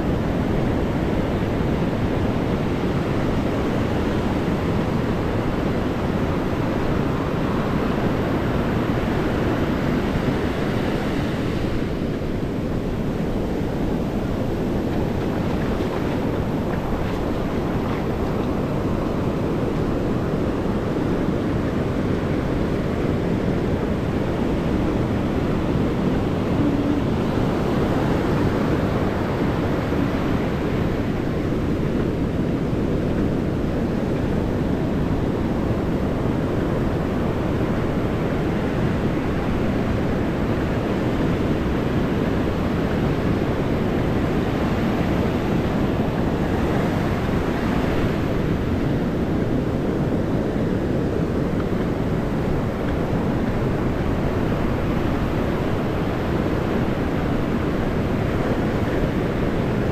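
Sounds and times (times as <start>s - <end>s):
ocean surf washing up beach: 0.0s - 59.9s
wind rumble on microphone: 0.0s - 59.9s.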